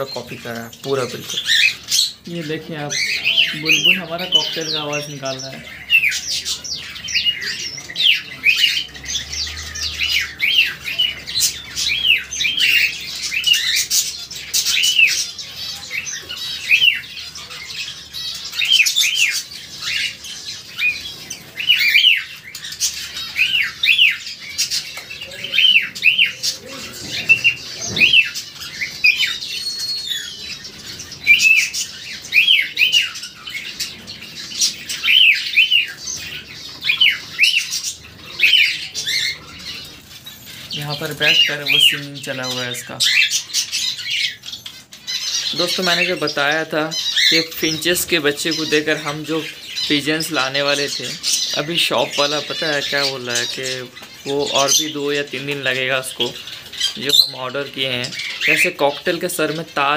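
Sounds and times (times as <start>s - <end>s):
faint bird chirps: 0.0s - 59.9s.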